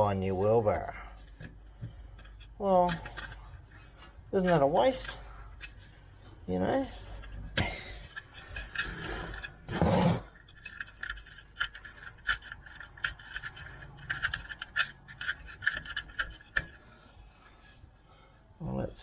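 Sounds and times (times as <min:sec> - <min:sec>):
metal parts scraping and clicking: 0:00.0 - 0:17.9.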